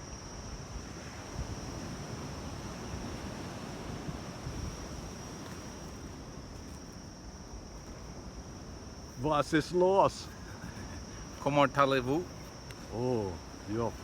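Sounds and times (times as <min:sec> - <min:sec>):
insects droning: 0:00.0 - 0:14.0
wind buffeting microphone: 0:00.4 - 0:14.0.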